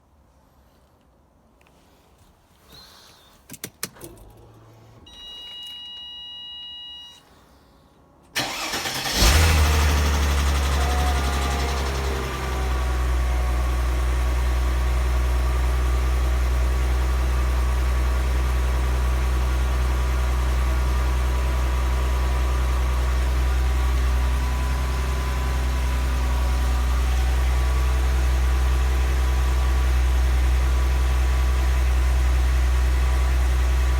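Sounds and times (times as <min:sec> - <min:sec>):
car engine starting and idling: 0:03.6 - 0:05.4, 0:08.3 - 0:33.9.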